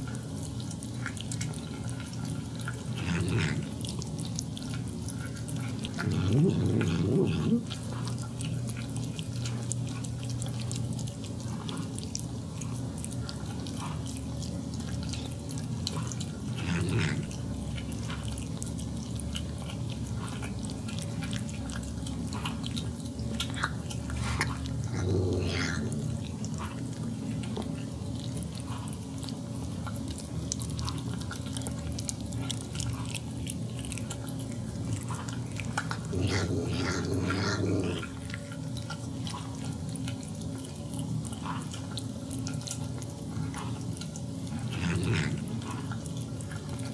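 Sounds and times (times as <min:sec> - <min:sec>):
cat eating wet food: 0:00.0 - 0:46.9.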